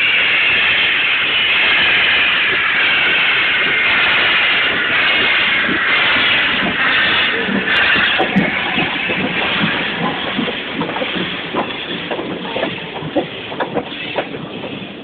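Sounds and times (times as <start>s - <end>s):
steam locomotive rushing steam: 0.0s - 15.0s.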